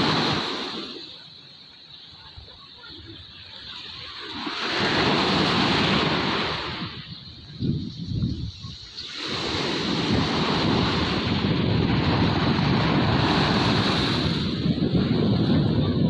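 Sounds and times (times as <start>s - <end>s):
waves breaking on beach: 0.0s - 16.0s
wind buffeting microphone: 2.7s - 16.0s.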